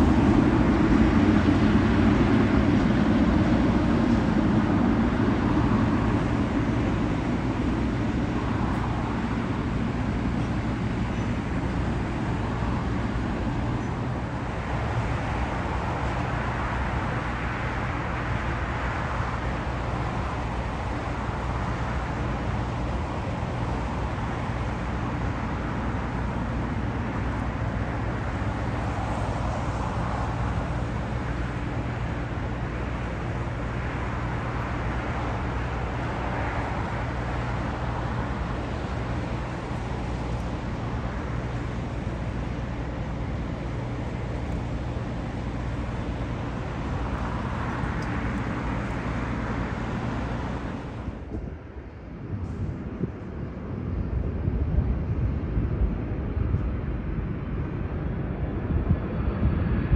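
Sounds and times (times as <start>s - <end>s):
engine and traffic rumble: 0.0s - 59.9s
low constant hum: 0.0s - 59.9s.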